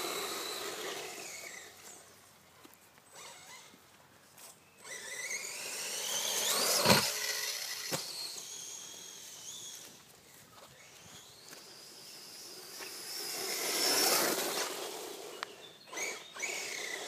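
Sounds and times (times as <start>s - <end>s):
rc car electric motor whine: 0.0s - 2.1s, 3.1s - 3.8s, 4.8s - 17.0s.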